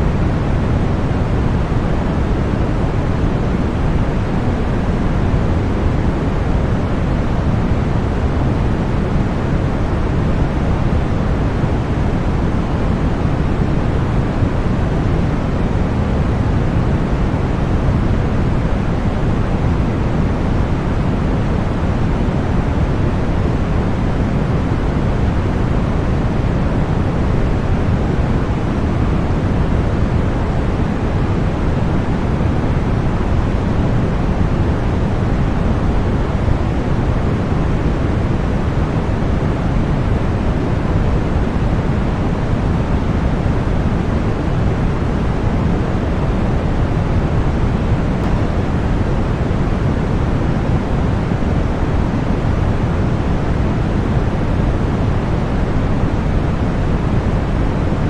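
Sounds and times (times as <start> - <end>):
deep white noise: 0.0 - 58.0.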